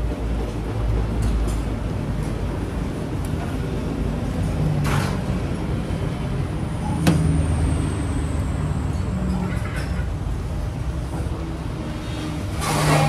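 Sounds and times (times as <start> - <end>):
busy restaurant background rumble: 0.5 - 13.0.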